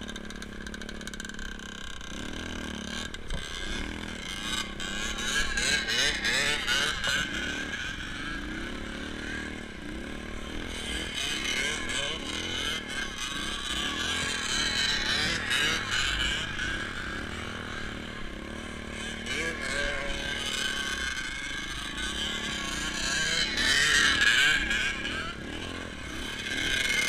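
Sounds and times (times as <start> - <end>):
small engine revving: 0.0 - 27.0.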